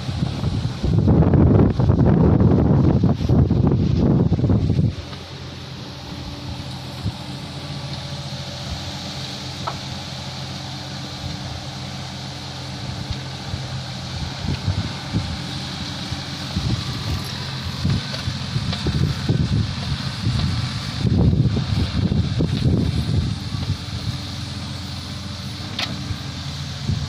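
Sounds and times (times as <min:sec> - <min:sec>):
wind buffeting microphone: 0:00.0 - 0:09.0, 0:11.1 - 0:27.0
mini excavator diesel engine: 0:00.0 - 0:27.0.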